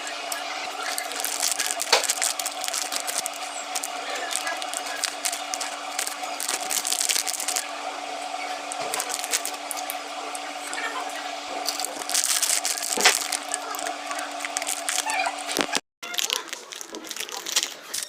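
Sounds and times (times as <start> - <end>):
steady hum: 0.0 - 15.8
wrappers crinkling: 0.4 - 7.8, 8.5 - 18.0.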